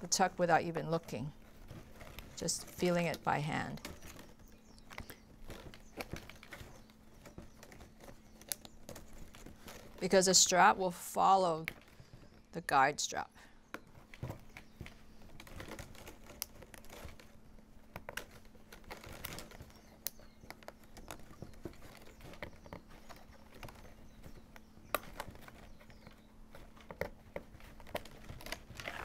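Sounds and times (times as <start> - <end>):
plastic straps clicking and crinkling: 0.0 - 12.6, 13.6 - 29.0.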